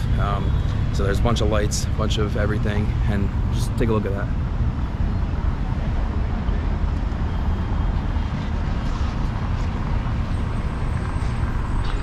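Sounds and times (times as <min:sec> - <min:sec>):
city road traffic rumble: 0:00.0 - 0:12.0.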